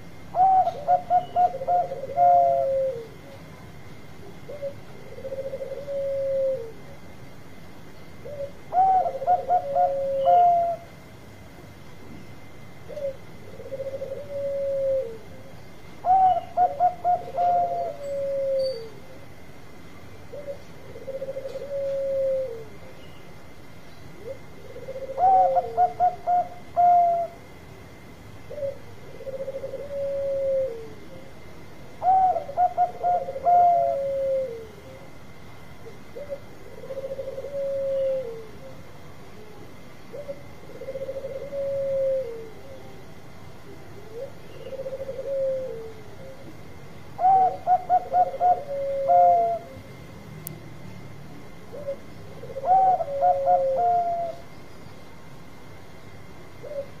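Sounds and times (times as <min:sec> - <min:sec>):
dove calling in clipped notes: 0:00.0 - 0:06.9, 0:07.9 - 0:11.6, 0:12.4 - 0:50.6, 0:51.4 - 0:57.0
doves cooing: 0:00.0 - 0:11.8, 0:12.4 - 0:57.0.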